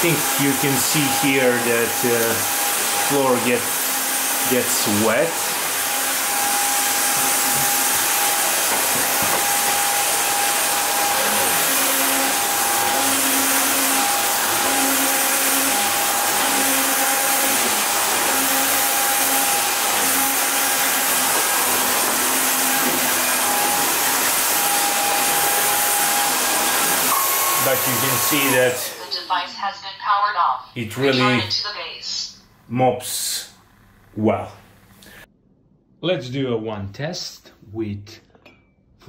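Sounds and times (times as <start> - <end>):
wet and dry vacuum running: 0.0 - 29.5, 30.8 - 31.5, 32.6 - 35.2.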